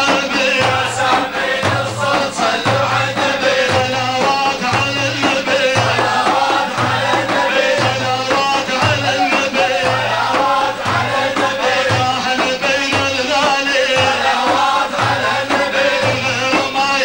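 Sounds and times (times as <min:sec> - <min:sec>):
devotional chant singing: 0:00.0 - 0:17.0
hand percussion: 0:00.0 - 0:17.0
low drum beat: 0:00.0 - 0:17.0.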